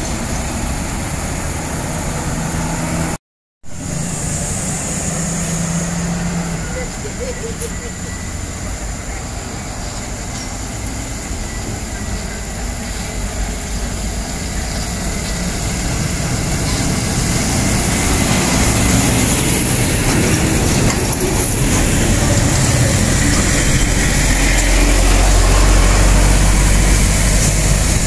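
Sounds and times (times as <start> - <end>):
truck diesel engine pulling uphill: 0.0 - 28.0.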